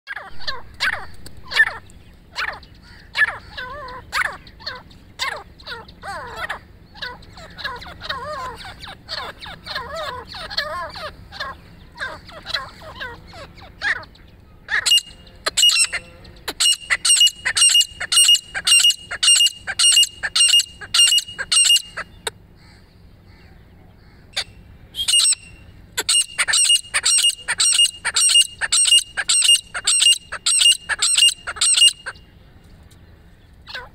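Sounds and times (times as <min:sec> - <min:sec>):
francolins calling: 0:00.1 - 0:33.9.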